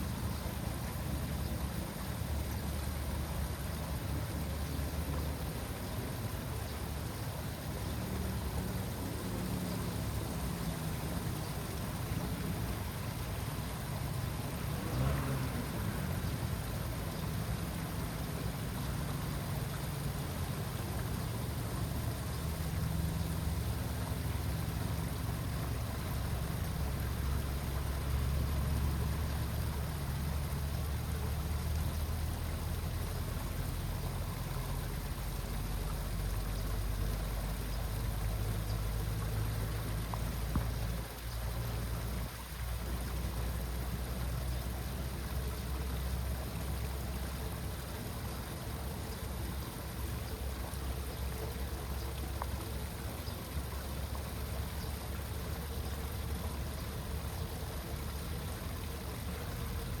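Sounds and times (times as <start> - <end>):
water rushing through a drain: 0.0 - 60.0.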